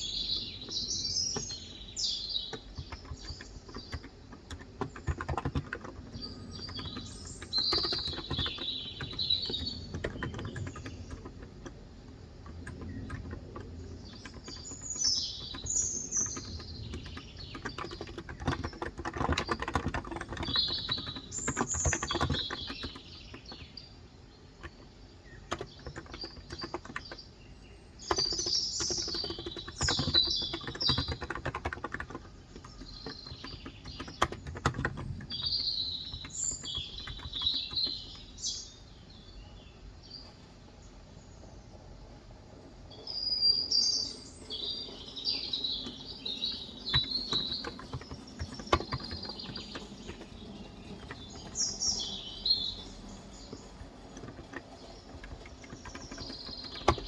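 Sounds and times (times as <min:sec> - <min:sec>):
keyboard typing: 0:00.0 - 0:23.7, 0:24.5 - 0:27.4, 0:28.0 - 0:38.3, 0:44.4 - 0:57.0
small birds chirping: 0:00.0 - 0:57.0.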